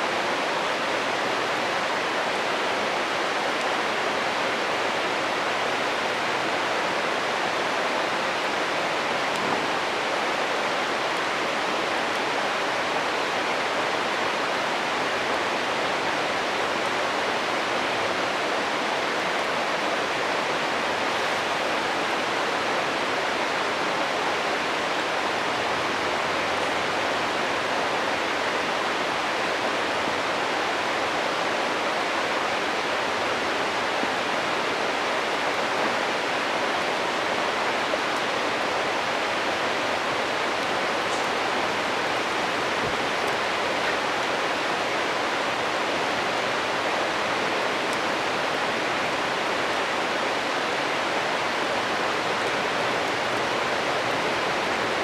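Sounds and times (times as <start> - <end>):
stream rushing and babbling: 0.0 - 55.0.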